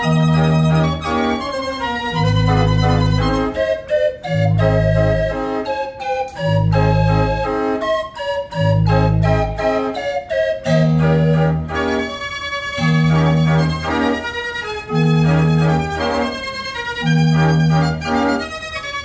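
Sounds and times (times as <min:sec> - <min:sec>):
fairground organ playing: 0:00.0 - 0:19.0.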